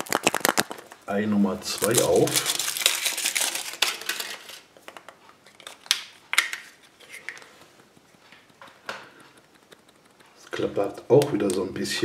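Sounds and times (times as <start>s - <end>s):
chocolate egg cracking: 0.0s - 11.7s.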